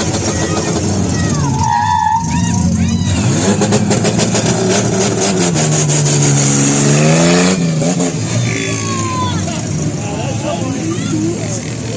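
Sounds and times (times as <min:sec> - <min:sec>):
car engine rumbling through exhaust: 0:00.0 - 0:11.9
exhaust crackles: 0:00.0 - 0:11.9.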